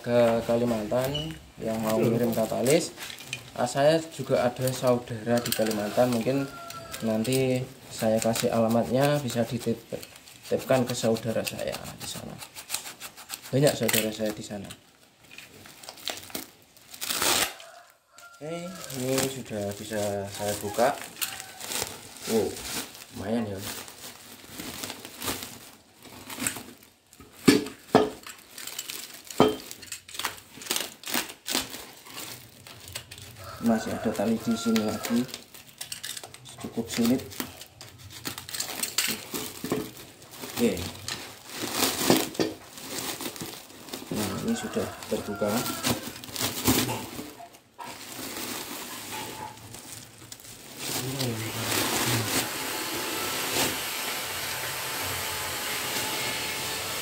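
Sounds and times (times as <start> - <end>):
plastic sack crinkling: 0.0 - 56.2.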